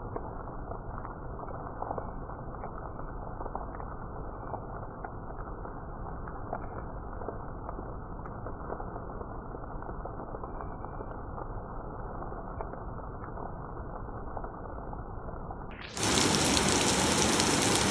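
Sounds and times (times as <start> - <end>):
crisp rain on surfaces: 0.0 - 17.9
muffled rain: 0.0 - 17.9
rain drops ticking: 0.0 - 17.9.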